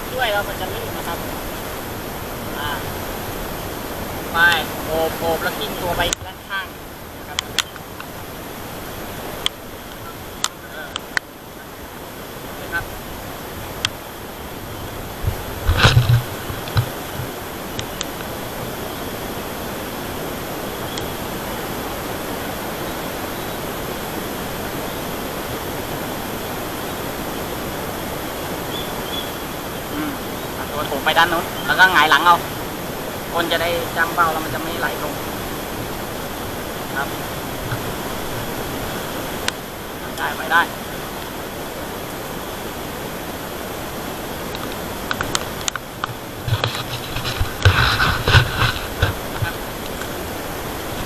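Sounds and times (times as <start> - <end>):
steady rushing noise: 0.0 - 51.0.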